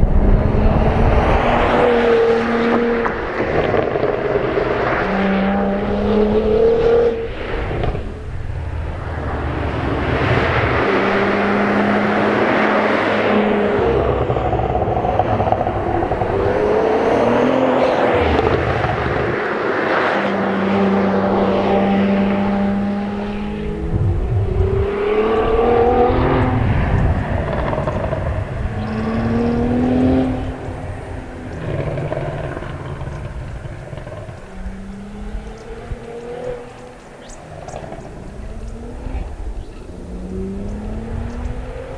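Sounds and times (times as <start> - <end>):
car engine revving hard: 0.0 - 8.1, 9.4 - 41.9.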